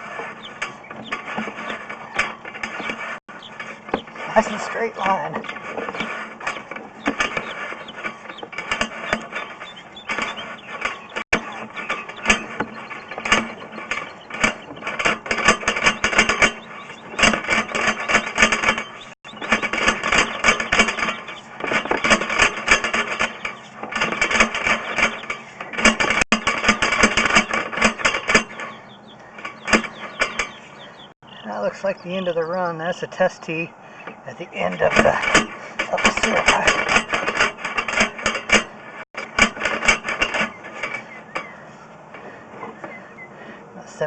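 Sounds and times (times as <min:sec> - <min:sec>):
cable clicking and rattling: 0:00.0 - 0:31.2, 0:34.1 - 0:43.0.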